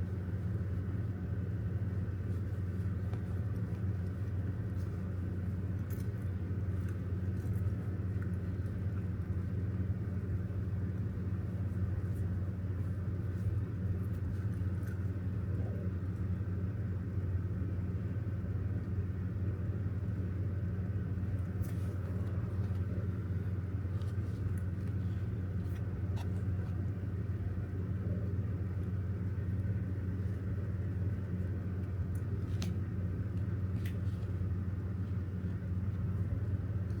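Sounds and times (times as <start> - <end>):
low rumbling hum: 0.0 - 37.0.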